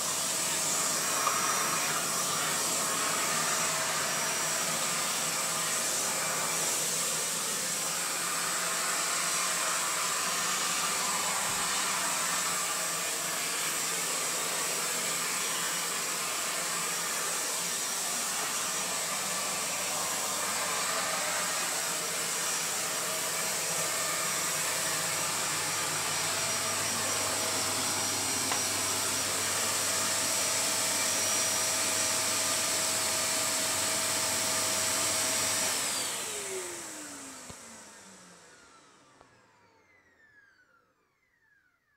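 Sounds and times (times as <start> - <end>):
brush tool sucking along floor: 0.0 - 38.0
vacuum cleaner running: 0.0 - 41.9.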